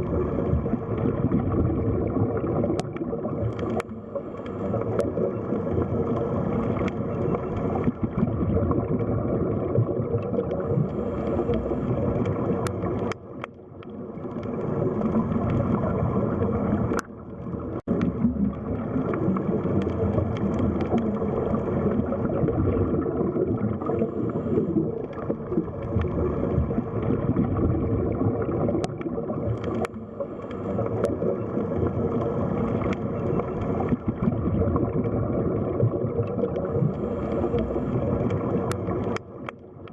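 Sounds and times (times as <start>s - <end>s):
underwater wash and gurgle: 0.0s - 39.9s.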